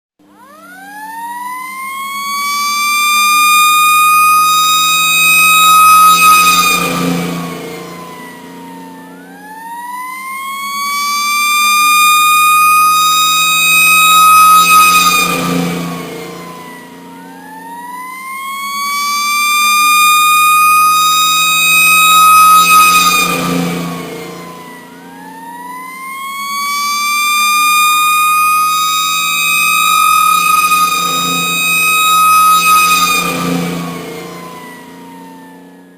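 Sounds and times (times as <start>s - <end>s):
emergency siren wailing: 0.2s - 35.9s
vehicle engine running: 0.2s - 35.9s.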